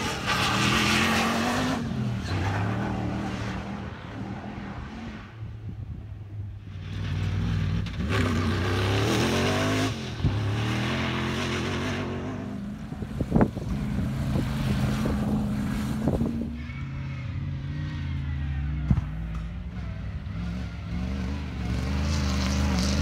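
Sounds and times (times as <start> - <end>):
off-road vehicle engines revving: 0.0 - 23.0.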